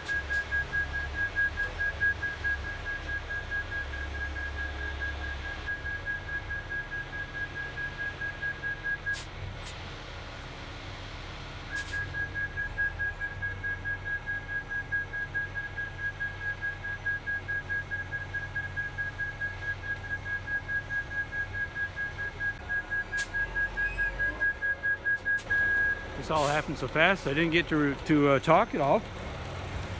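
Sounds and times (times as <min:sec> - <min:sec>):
truck reversing alarm beeping: 0:00.0 - 0:09.3, 0:11.7 - 0:29.9
diesel engine running: 0:00.0 - 0:29.9.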